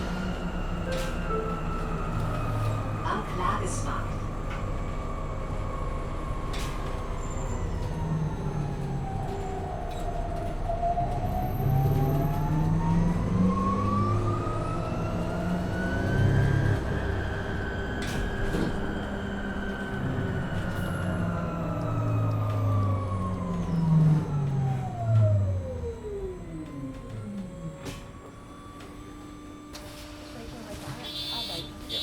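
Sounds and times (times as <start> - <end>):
bus engine hum: 0.0 - 32.0.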